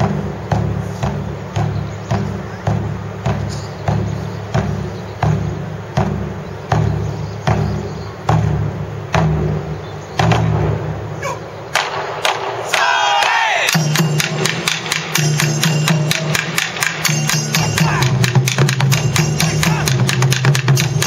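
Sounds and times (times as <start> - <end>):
taiko drum booming: 0.0 - 21.0.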